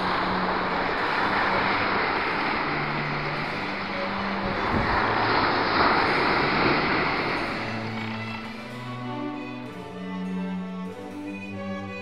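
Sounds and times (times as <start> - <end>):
sea waves breaking on beach: 0.0 - 9.8.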